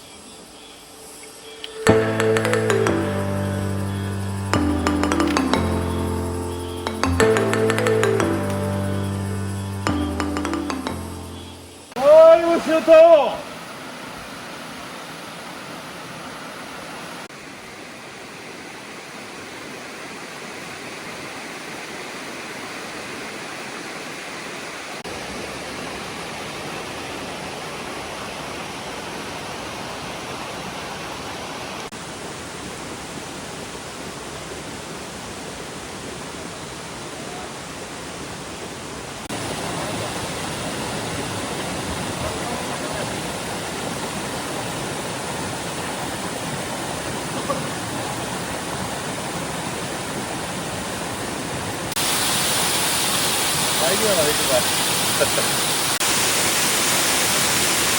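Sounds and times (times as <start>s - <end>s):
rushing stream and waterfalls: 1.3s - 57.9s.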